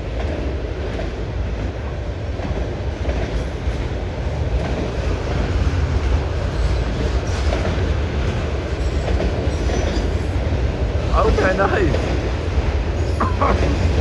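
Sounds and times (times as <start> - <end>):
freight train rumbling: 0.0 - 14.0
wheels clickety-clack over rail joints: 0.0 - 14.0.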